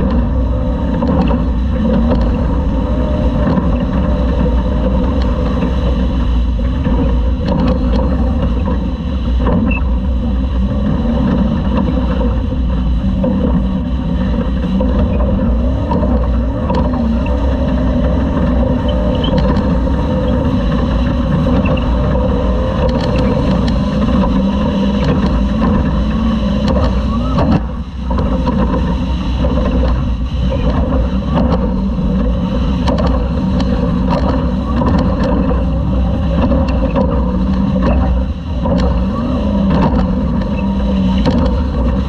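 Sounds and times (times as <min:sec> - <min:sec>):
truck engine running hard: 0:00.0 - 0:42.0.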